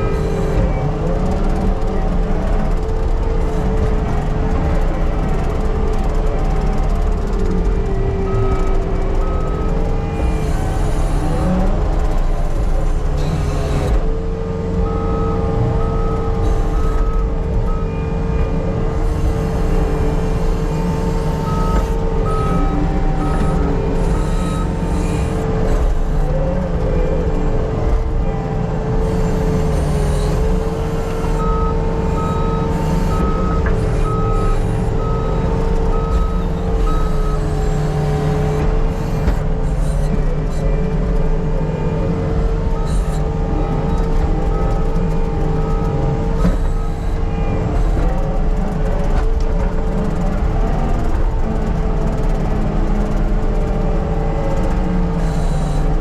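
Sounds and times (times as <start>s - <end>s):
diesel earthmoving machine whining: 0.0s - 56.0s.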